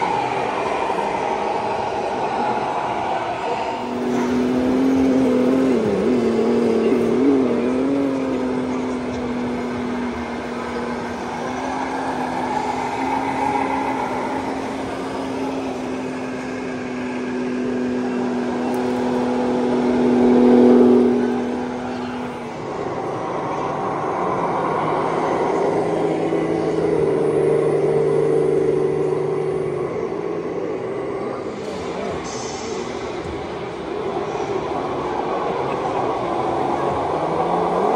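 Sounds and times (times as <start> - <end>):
murmur of voices: 0.0 - 37.9
simulated diesel engine hum: 0.0 - 37.9.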